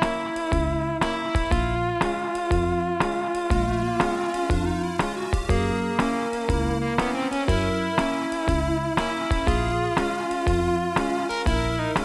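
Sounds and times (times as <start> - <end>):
plucked-string tune with steady beat: 0.0 - 12.0.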